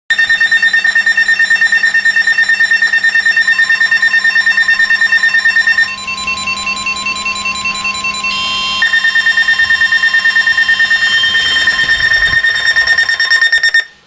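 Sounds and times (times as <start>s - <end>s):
high electronic beeps pulsing: 0.1s - 13.9s
steady low alarm tone: 0.1s - 14.0s.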